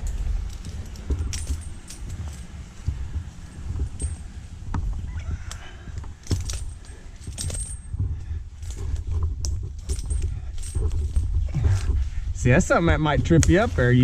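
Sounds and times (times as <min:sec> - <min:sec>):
metallic clinks of carabiners: 0:00.0 - 0:12.0
continuous low rumble: 0:00.0 - 0:14.0
rope and bark scraping: 0:00.0 - 0:14.0.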